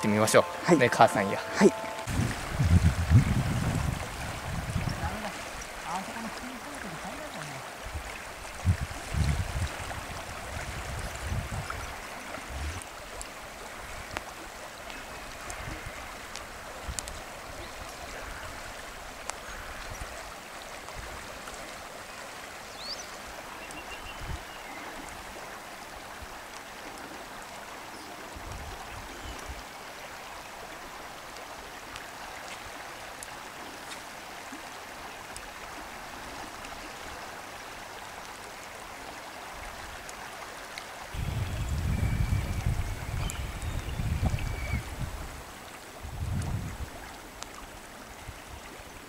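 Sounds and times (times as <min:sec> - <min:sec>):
river water rushing over riffles: 0:00.0 - 0:49.0.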